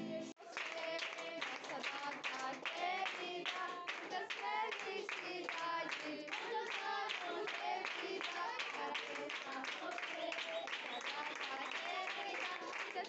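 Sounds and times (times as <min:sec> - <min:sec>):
voices singing along: 0:00.0 - 0:13.0
people clapping in time: 0:00.4 - 0:13.0.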